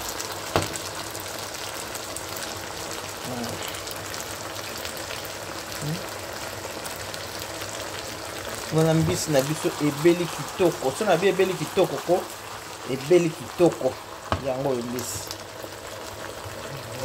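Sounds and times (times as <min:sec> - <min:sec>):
pan sizzling: 0:00.0 - 0:17.0.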